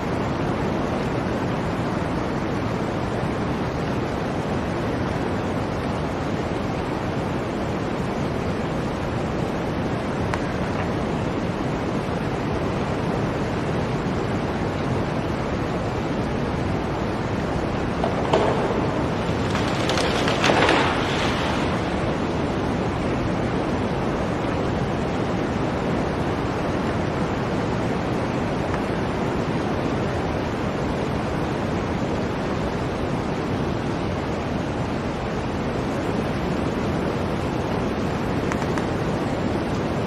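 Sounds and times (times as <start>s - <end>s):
blizzard wind rushing: 0.0s - 40.0s.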